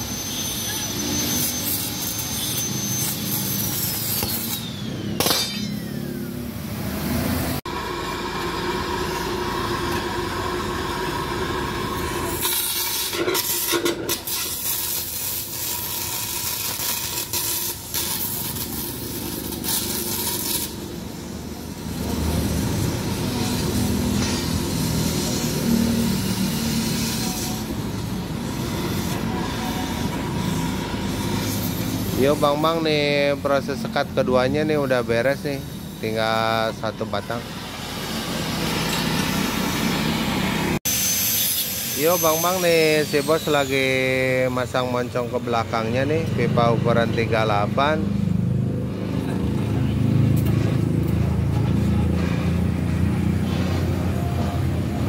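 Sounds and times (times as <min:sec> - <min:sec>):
cutting torch hissing: 0:00.0 - 0:46.6.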